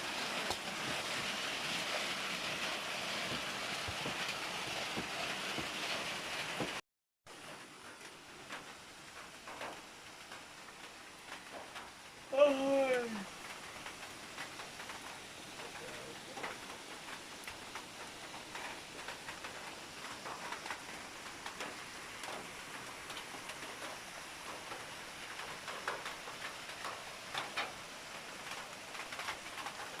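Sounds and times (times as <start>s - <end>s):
louder raindrop taps: 0.0s - 30.0s
rain patter: 0.0s - 30.0s.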